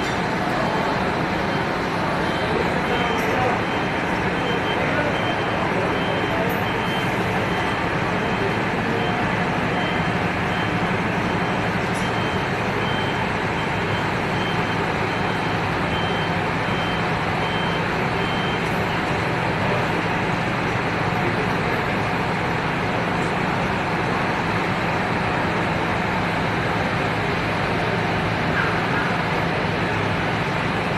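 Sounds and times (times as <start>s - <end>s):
coach engine hum: 0.0s - 30.9s.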